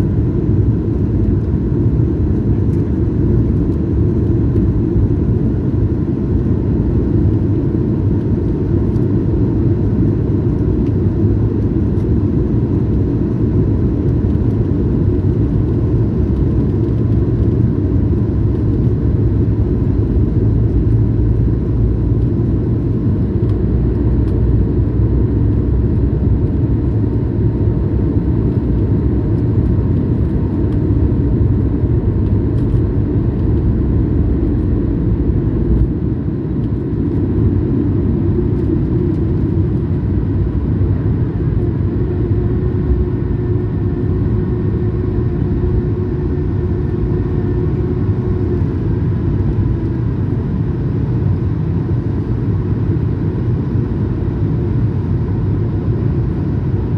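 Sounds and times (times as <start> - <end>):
faint engine whine: 0.0 - 56.9
jet engines rumbling: 0.0 - 56.9.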